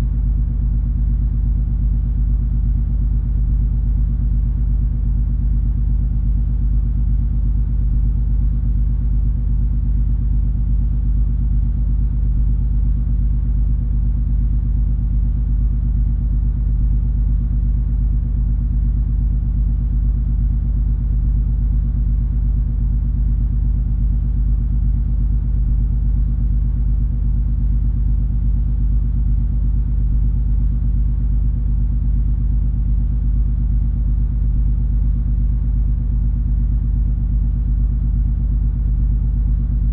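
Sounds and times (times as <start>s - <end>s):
low machinery hum tones: 0.0s - 39.9s.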